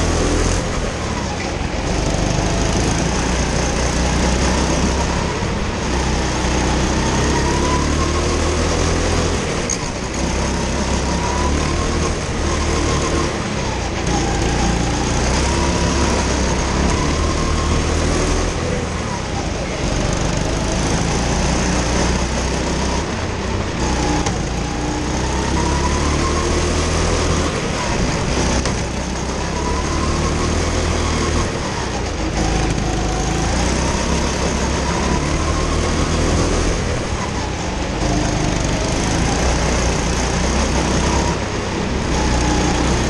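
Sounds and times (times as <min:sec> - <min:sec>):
kart engine revving: 0:00.0 - 0:43.0.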